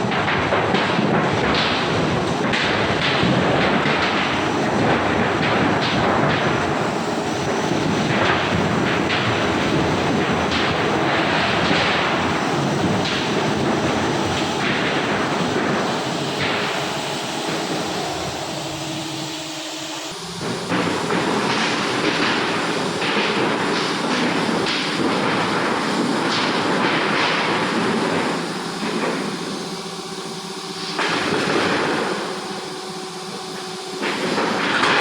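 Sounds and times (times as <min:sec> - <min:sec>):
machinery knocks: 0:00.0 - 0:29.7
roll forming machine running: 0:00.0 - 0:35.0.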